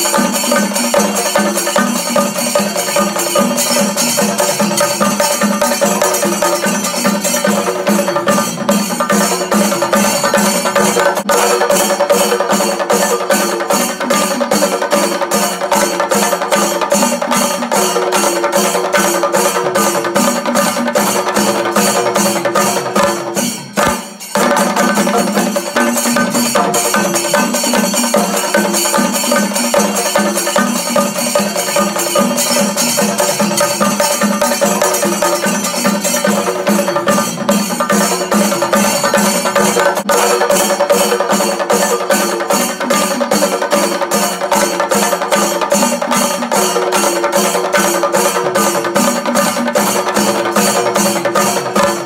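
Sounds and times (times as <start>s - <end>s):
music with fast percussion beat: 0.0s - 52.0s.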